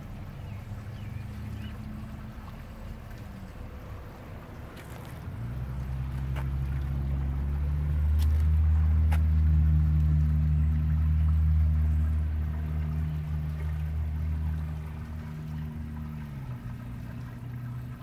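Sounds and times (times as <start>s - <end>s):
low engine-like drone: 0.0s - 18.0s.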